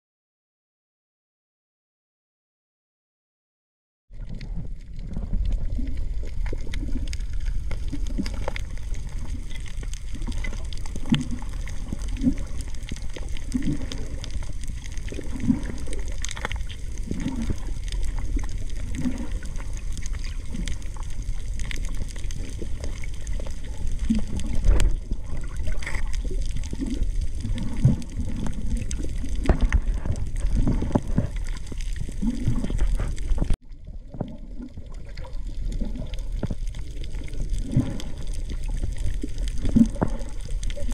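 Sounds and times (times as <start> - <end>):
underwater low rumble: 4.1 - 40.9
water gurgles: 4.1 - 40.9.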